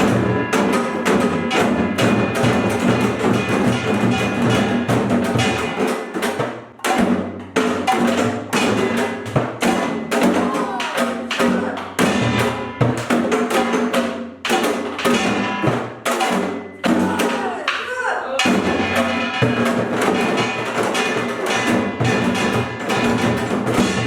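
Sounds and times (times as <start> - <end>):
drums playing fast rhythm: 0.0 - 24.0.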